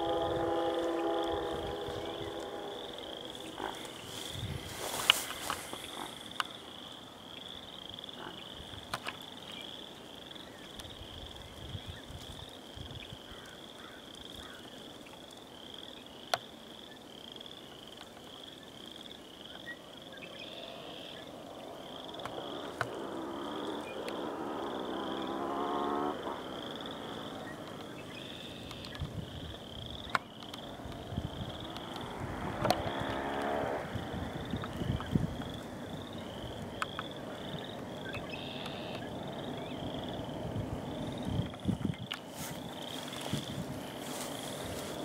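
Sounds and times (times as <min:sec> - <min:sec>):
frogs calling: 0:00.0 - 0:45.0.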